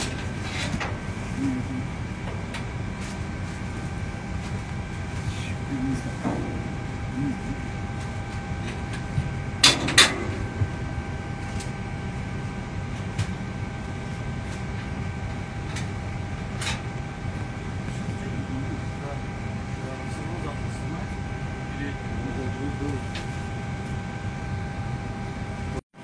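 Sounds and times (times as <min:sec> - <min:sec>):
cabin ventilation hum: 0:00.0 - 0:26.0
faint steady whine: 0:00.0 - 0:26.0.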